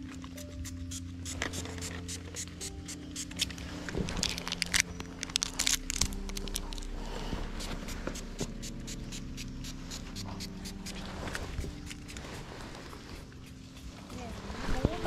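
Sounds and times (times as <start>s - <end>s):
crackling and scraping: 0.0s - 15.0s
soft background music: 0.0s - 15.0s.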